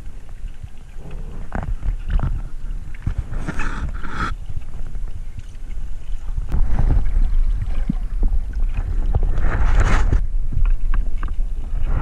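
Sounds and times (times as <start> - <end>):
underwater water rumble: 0.0 - 12.0
water rushing and gurgling: 0.0 - 12.0.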